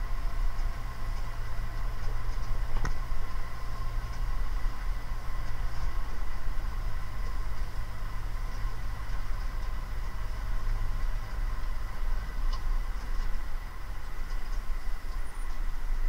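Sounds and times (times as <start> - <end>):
thin steady whine: 0.0 - 16.0
tractor diesel engine running: 0.0 - 16.0.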